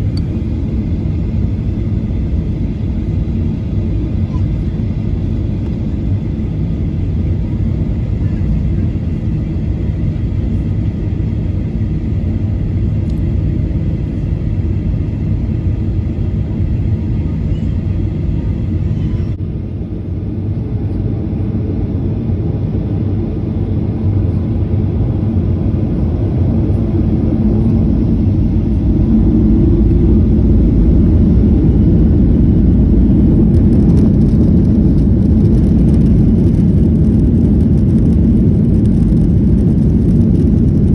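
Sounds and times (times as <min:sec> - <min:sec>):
jet cabin engine rumble: 0:00.0 - 0:40.9.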